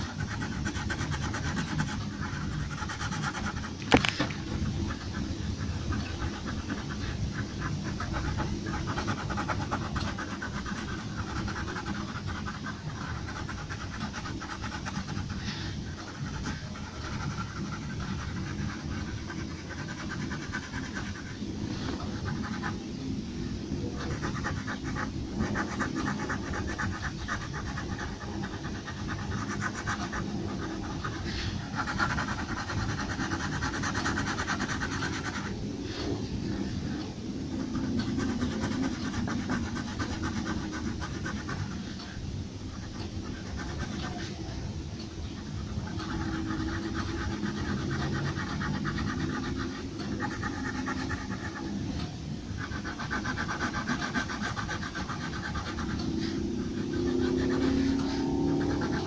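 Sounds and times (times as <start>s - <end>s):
low background rumble: 0.0s - 59.0s
pencil scratching on paper: 0.0s - 59.0s.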